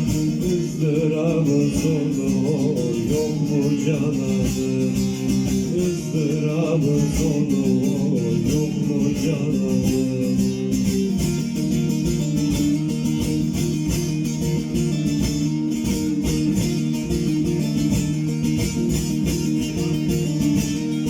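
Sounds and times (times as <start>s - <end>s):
long-necked lute plucked rapidly: 0.0s - 21.0s.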